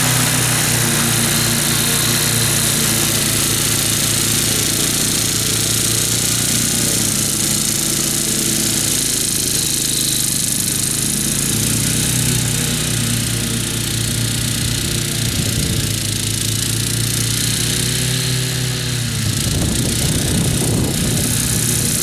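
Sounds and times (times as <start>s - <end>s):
mower cutting wet grass: 0.0s - 22.0s
ride-on mower engine: 0.0s - 22.0s.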